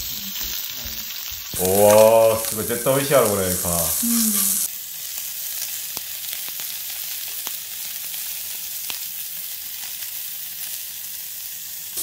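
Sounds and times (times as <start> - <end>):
beef sizzling on grill plate: 0.0 - 12.0.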